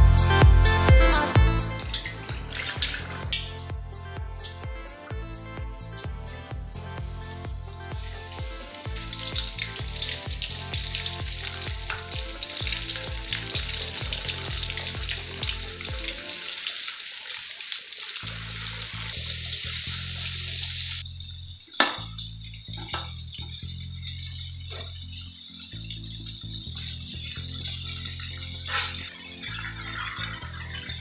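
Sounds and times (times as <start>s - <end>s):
background music: 0.0s - 17.1s, 18.2s - 31.0s
chicken sizzling in hot oil: 1.8s - 3.6s, 7.0s - 21.0s, 21.7s - 31.0s.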